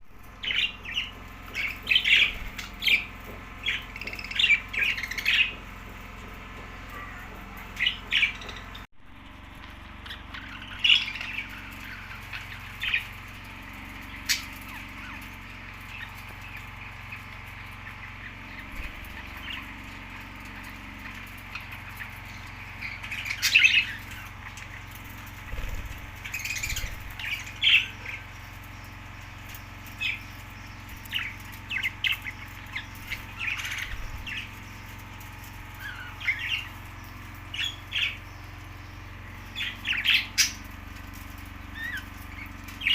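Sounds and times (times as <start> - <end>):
steady low hum: 0.0 - 42.9
budgerigars chirping and squawking: 0.2 - 8.9, 9.8 - 42.9.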